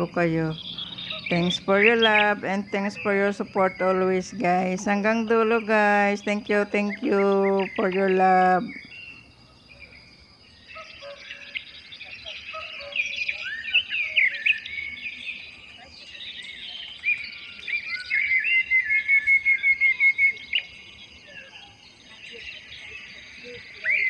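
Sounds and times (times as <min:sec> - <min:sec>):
birds singing and calling: 0:00.0 - 0:24.0
faint insect whine: 0:00.0 - 0:24.0.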